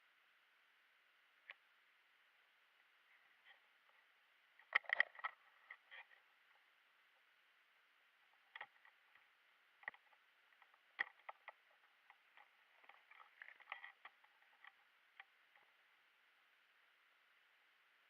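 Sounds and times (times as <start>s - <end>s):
faint irregular clicks and crackles: 0.0s - 18.0s.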